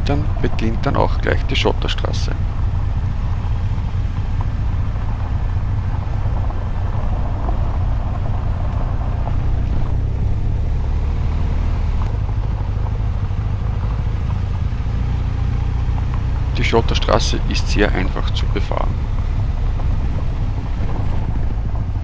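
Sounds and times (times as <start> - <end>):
gravel road noise: 0.0 - 22.0
motorcycle engine running: 0.0 - 22.0.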